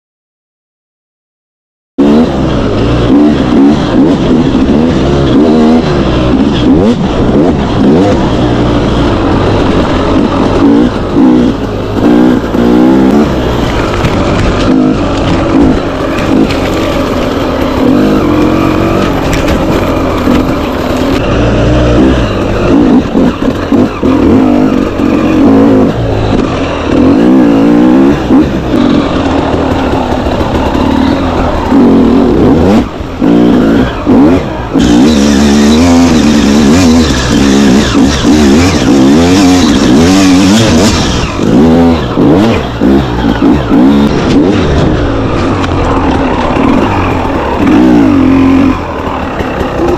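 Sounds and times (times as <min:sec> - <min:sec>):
dirt bike engine revving: 0:02.0 - 0:49.9.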